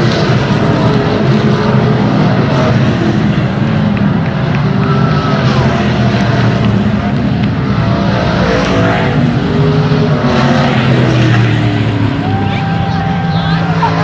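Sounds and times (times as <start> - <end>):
stock car engines racing: 0.0 - 14.0.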